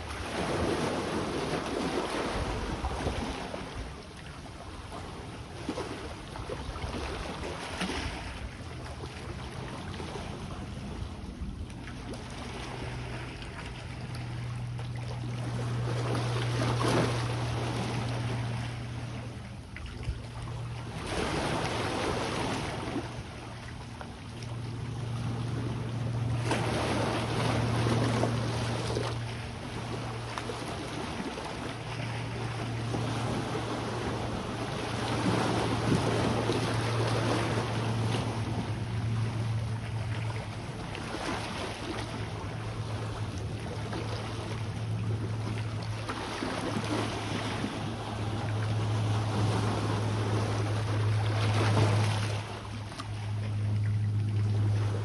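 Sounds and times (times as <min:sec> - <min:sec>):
sea waves washing in: 0:00.0 - 0:55.0
steady low hum: 0:00.0 - 0:55.0.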